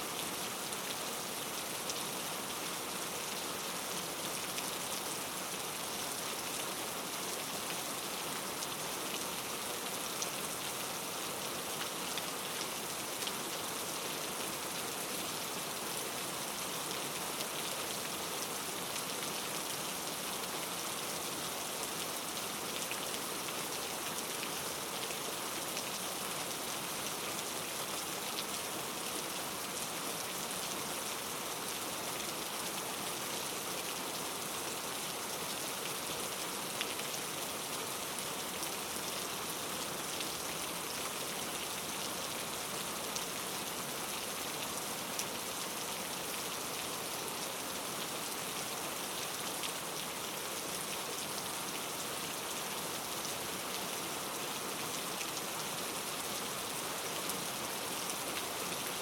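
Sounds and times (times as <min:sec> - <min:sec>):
rain drops ticking on a surface: 0:00.1 - 0:59.0.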